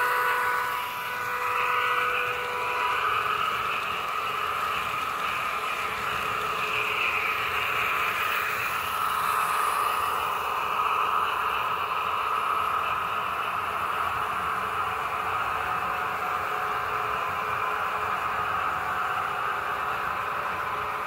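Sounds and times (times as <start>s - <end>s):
model train whirring on rails: 0.0s - 21.0s.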